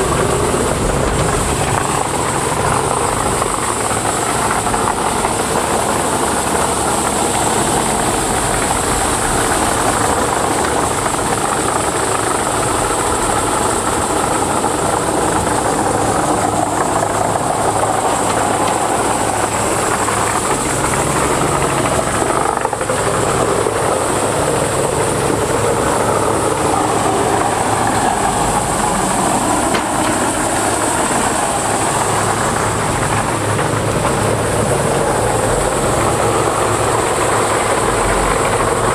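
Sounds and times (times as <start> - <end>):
wood chipper running: 0.0 - 38.9.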